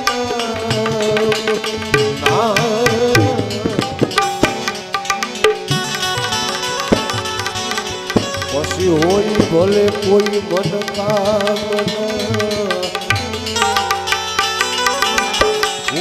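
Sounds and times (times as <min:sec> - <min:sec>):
tabla strokes: 0:00.0 - 0:16.0
banjo melodic note: 0:01.5 - 0:16.0.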